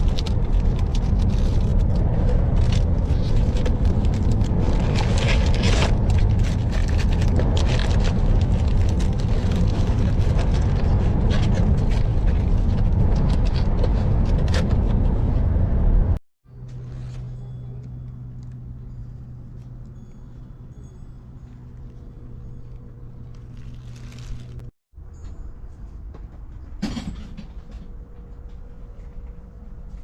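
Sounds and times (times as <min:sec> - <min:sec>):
car road rumble: 0:00.0 - 0:24.7.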